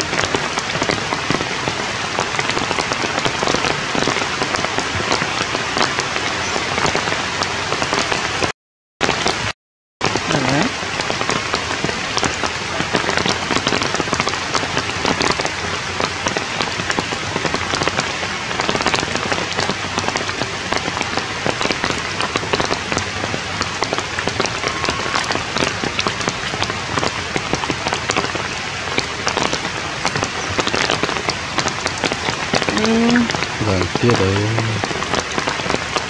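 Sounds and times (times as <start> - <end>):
rain on leaves: 0.0 - 36.0.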